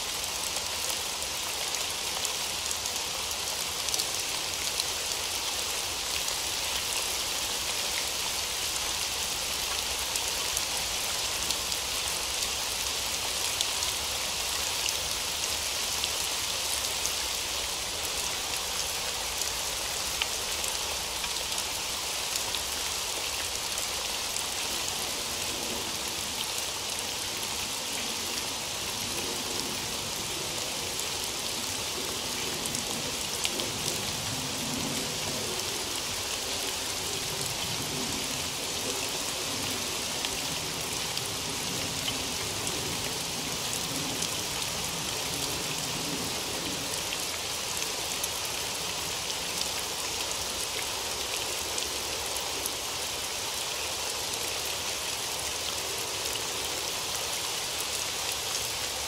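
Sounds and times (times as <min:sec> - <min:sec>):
rain on a hard surface: 0:00.0 - 0:59.0.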